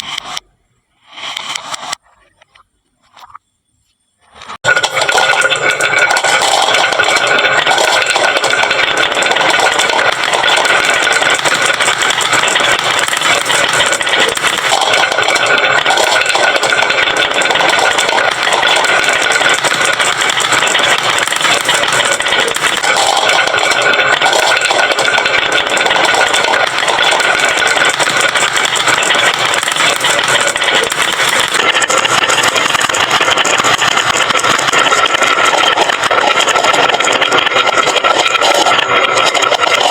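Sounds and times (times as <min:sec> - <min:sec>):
marbles rattling down wooden slope: 0:04.6 - 0:39.9.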